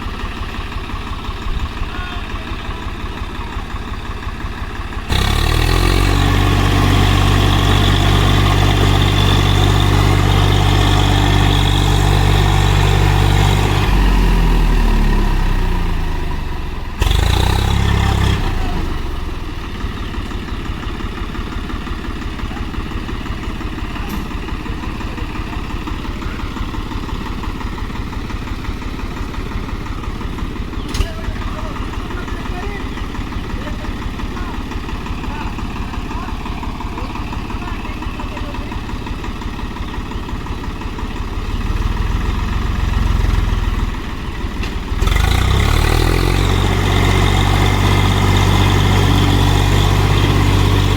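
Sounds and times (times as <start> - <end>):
tractor diesel engine revving: 0.0 - 50.9.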